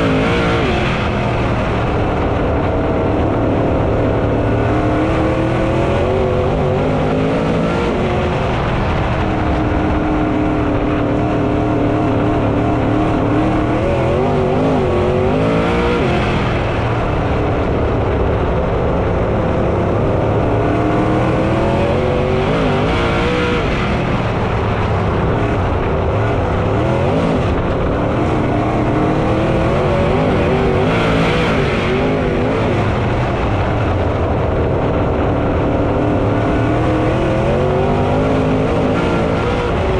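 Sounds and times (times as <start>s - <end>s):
race car engines running hard: 0.0s - 39.9s.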